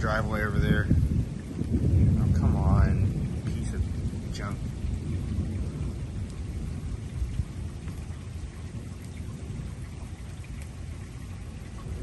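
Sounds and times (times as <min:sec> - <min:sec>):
rain: 0:00.0 - 0:12.0
thunder rumbling: 0:00.0 - 0:12.0.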